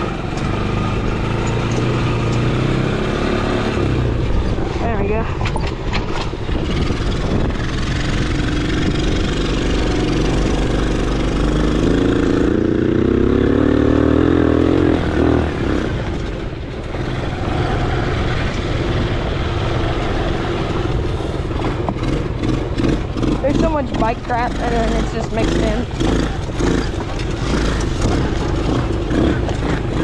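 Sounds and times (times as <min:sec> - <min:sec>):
quad engine revving: 0:00.0 - 0:05.1, 0:06.0 - 0:30.0.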